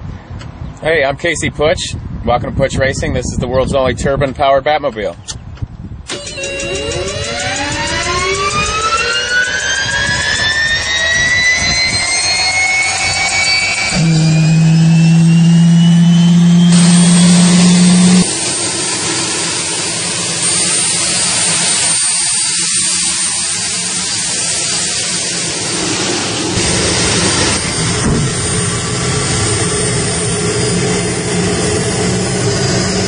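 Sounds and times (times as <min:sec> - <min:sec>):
loud low hum: 0:05.8 - 0:33.0
gas turbine whine spooling up: 0:06.1 - 0:33.0.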